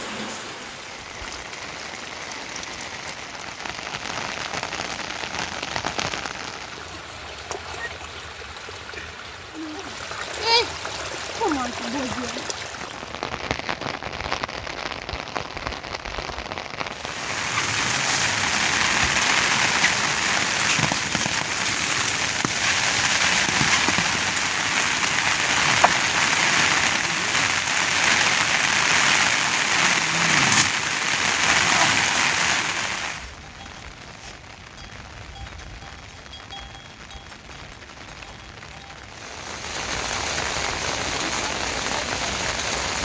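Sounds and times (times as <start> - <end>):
heavy rain patter: 0.0 - 43.0.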